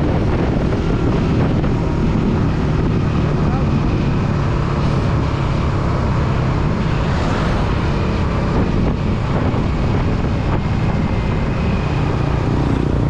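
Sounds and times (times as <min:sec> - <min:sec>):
motorcycle engine humming: 0:00.0 - 0:13.0
wind rush on microphone: 0:00.0 - 0:13.0.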